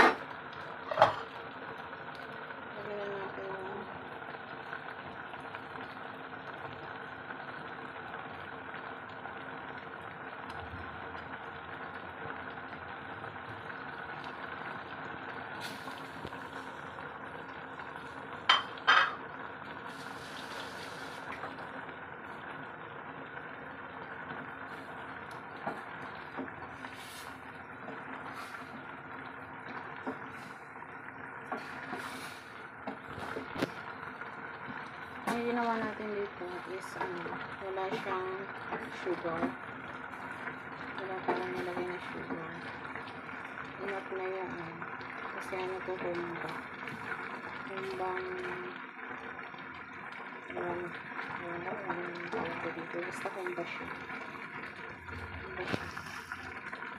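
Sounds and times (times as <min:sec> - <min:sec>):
sauce bubbling in a pot: 0:00.0 - 0:56.9.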